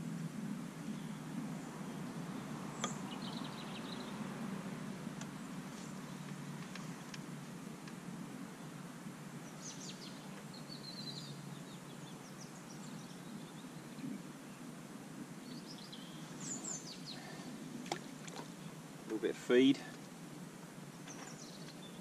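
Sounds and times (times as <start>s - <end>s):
low outdoor hum: 0.0s - 22.0s
small birds chirping: 0.8s - 4.4s, 5.2s - 7.3s, 9.4s - 14.7s, 15.4s - 22.0s.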